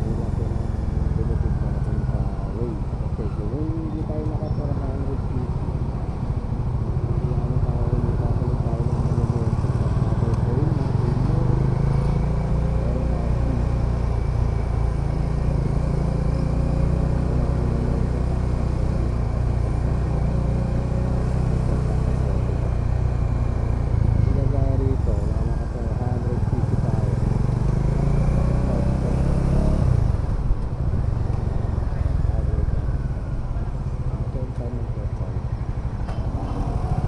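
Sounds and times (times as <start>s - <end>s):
motorcycle engine running: 0.0s - 37.0s
road noise: 0.0s - 37.0s.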